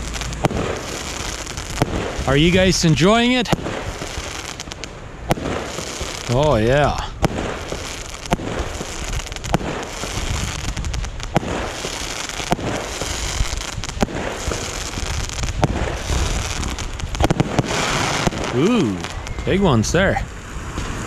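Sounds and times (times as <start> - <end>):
firework bangs: 0.0 - 21.0
firework crackling and rumble: 0.0 - 21.0.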